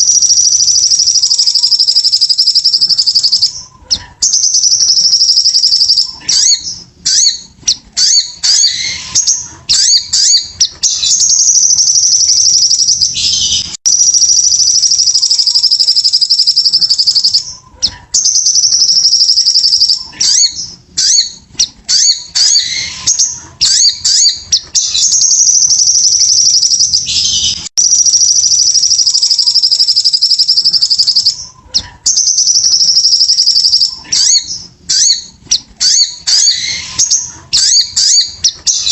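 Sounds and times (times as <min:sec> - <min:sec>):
bird trills and chirps: 0:00.0 - 0:38.9.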